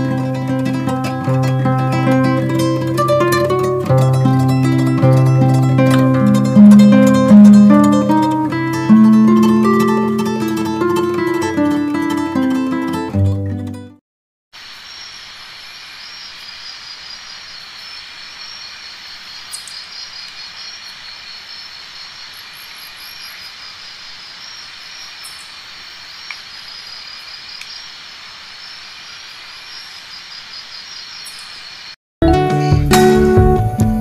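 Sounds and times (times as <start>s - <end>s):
insects chirping: 0.0s - 11.9s, 14.6s - 32.0s
soft outdoor hiss: 0.0s - 13.0s, 14.6s - 32.0s.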